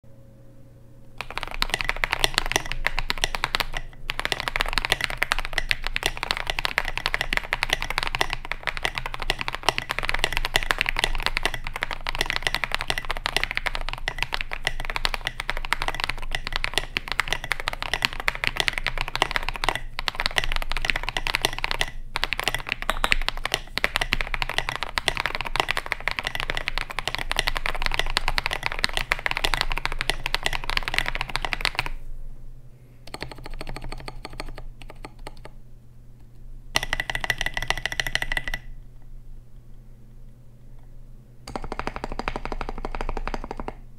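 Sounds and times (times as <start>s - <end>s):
mechanical keyboard typing: 1.2s - 32.0s, 33.1s - 35.6s, 36.8s - 38.8s, 41.5s - 43.8s.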